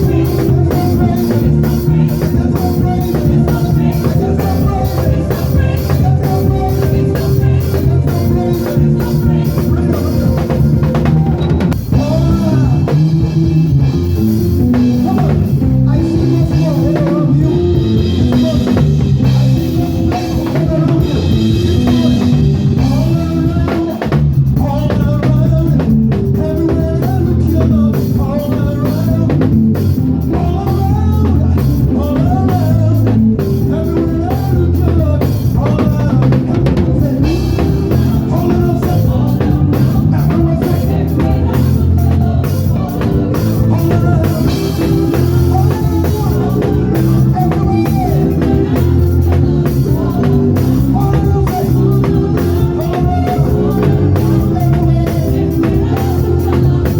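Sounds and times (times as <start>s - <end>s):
deep heavy bass line: 0.0s - 56.9s
drum kit snare and rimshots: 0.0s - 56.9s
gospel band playing: 0.0s - 56.9s.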